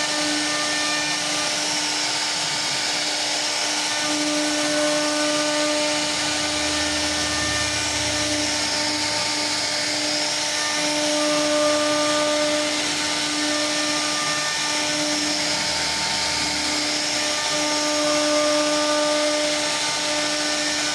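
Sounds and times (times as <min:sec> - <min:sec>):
router spindle whining: 0:00.0 - 0:20.9.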